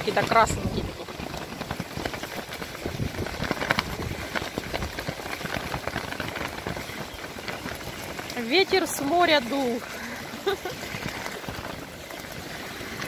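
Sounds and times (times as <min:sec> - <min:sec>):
lake water splashing on shore: 0:00.0 - 0:13.0
wind buffeting microphone: 0:00.0 - 0:13.0.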